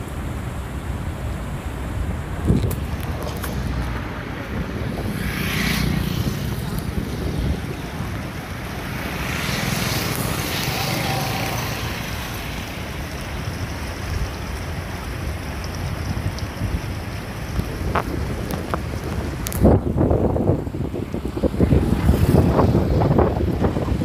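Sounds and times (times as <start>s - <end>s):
river water running: 0.0s - 24.0s
wind noise on microphone: 0.0s - 24.0s.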